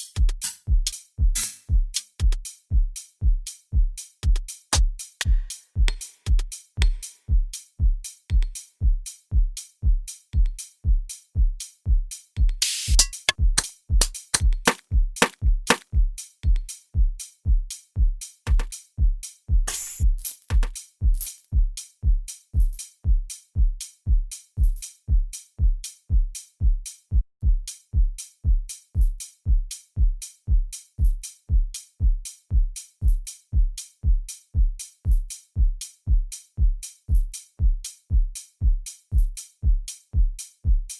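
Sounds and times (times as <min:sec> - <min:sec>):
electronic kick drum: 0:00.0 - 0:40.9
hi-hats: 0:00.0 - 0:40.9.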